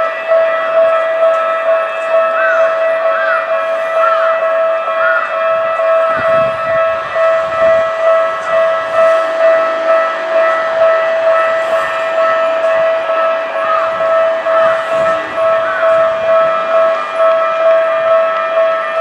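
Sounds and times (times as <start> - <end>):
level-crossing warning bell: 0.0 - 19.0.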